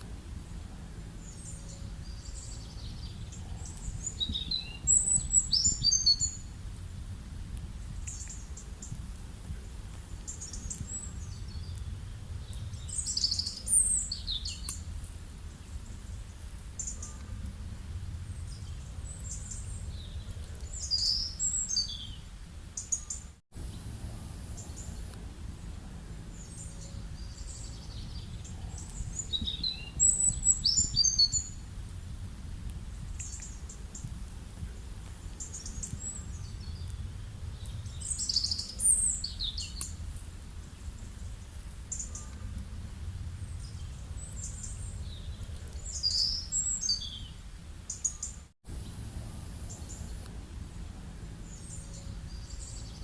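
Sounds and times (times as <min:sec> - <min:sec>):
birds chirping: 0:00.0 - 0:06.9, 0:07.6 - 0:53.0
low background rumble: 0:00.0 - 0:23.0, 0:23.6 - 0:48.0, 0:48.7 - 0:53.0.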